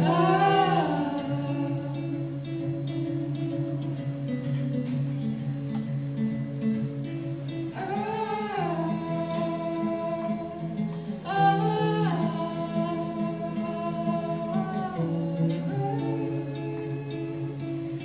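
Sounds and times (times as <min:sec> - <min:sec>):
person singing long notes: 0:00.0 - 0:04.3, 0:07.5 - 0:18.0
acoustic guitar: 0:00.0 - 0:18.0.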